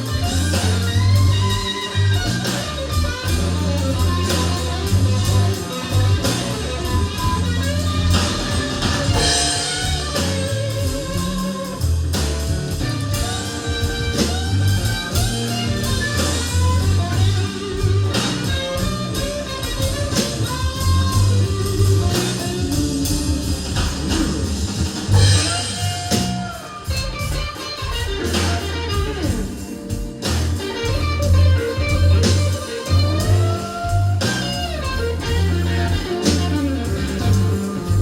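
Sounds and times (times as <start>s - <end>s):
blues-rock band playing: 0.0s - 38.0s
electric guitar lead: 0.0s - 38.0s.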